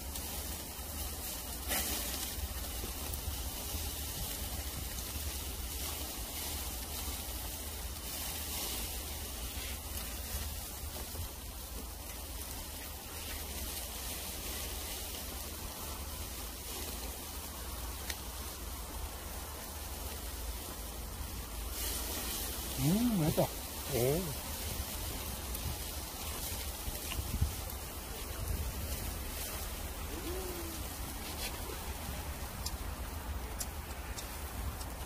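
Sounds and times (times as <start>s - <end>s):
meat sizzling on grill: 0.0s - 33.4s.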